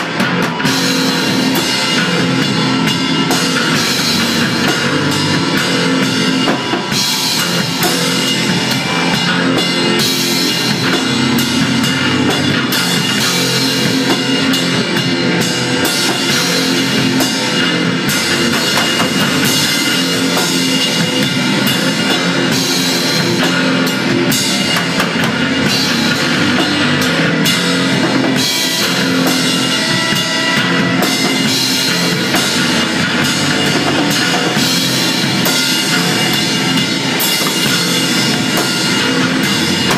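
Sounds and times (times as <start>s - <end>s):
pounding drum kit: 0.0s - 39.9s
rock band playing: 0.0s - 39.9s.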